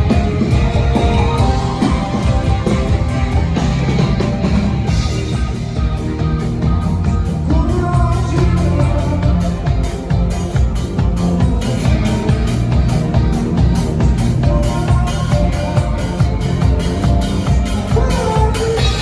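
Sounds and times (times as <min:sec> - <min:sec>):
bass guitar: 0:00.0 - 0:19.0
drums: 0:00.0 - 0:19.0
electric guitar: 0:00.0 - 0:19.0.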